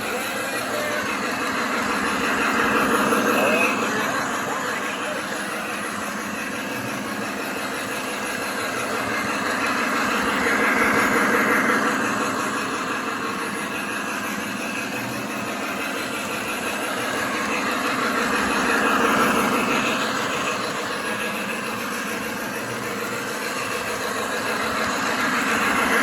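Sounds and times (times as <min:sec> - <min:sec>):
model train locomotive running: 0:00.0 - 0:26.0.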